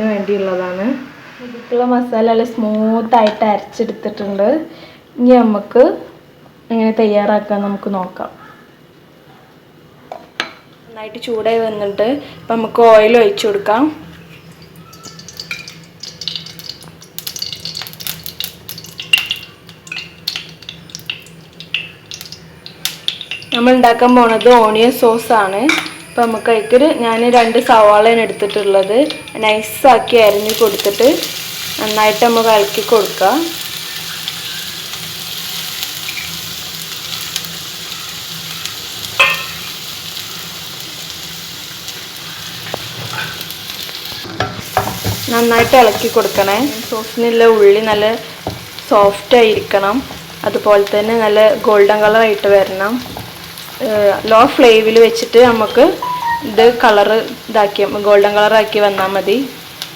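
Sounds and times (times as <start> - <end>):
oil sizzling in a pan: 11.2 - 59.9.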